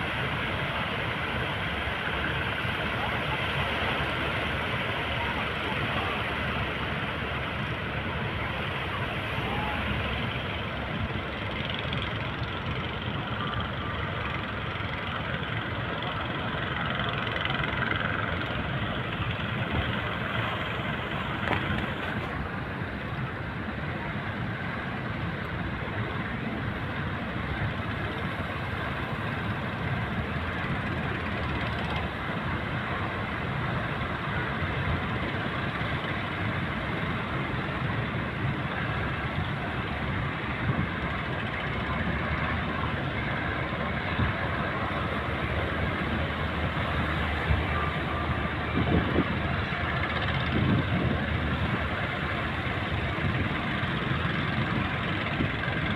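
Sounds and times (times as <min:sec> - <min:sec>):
boat engine running: 0:00.0 - 0:55.9
constant rushing noise: 0:00.0 - 0:55.9.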